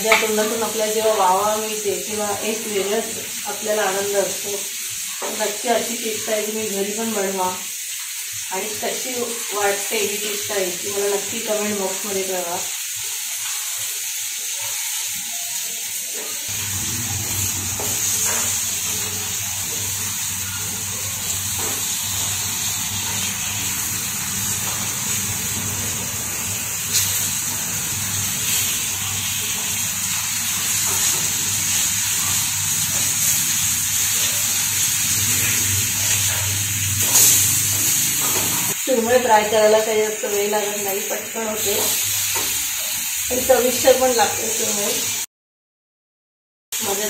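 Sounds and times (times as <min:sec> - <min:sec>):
fish sizzling in hot oil: 0:00.0 - 0:45.3, 0:46.8 - 0:47.0.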